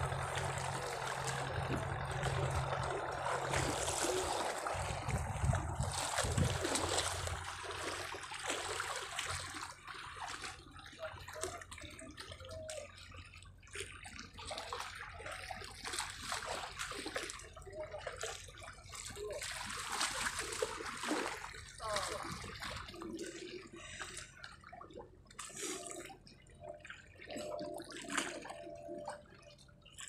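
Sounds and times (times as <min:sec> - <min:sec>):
waves lapping against rocks: 0:00.0 - 0:12.2, 0:13.7 - 0:26.2.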